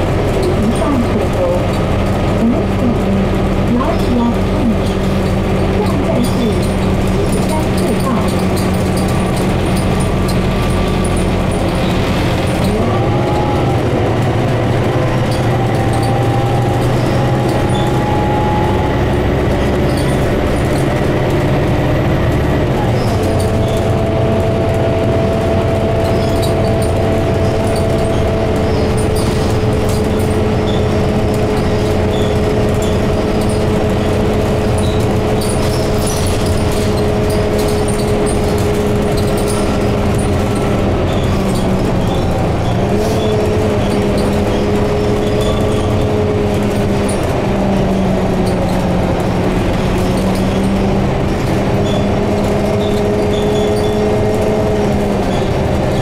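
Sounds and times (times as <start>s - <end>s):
bus drivetrain hum: 0.0s - 56.0s
road and wind noise: 0.0s - 56.0s.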